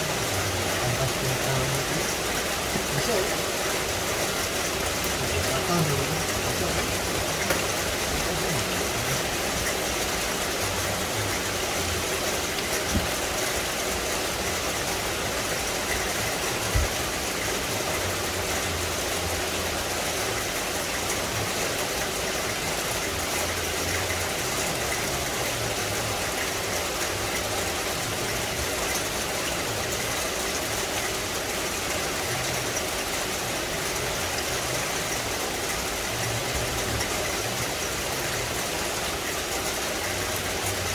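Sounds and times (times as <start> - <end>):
rain hissing on leaves: 0.0 - 40.9.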